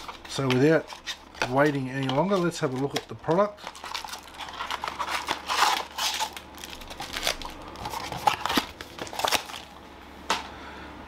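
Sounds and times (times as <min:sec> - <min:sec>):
card pack wrappers crinkling: 0:00.0 - 0:09.8.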